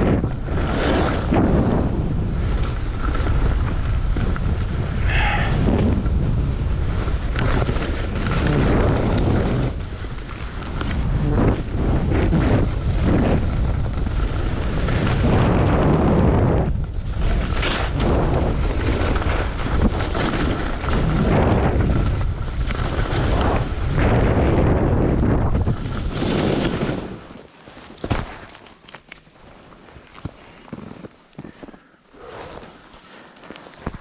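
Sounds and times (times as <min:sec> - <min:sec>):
wind rushing over microphone: 0:00.0 - 0:27.4.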